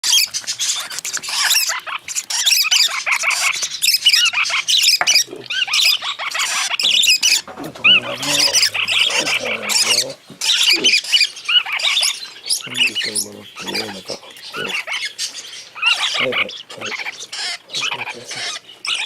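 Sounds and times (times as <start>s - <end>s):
parrot chicks chirping and squawking: 0.0s - 19.0s.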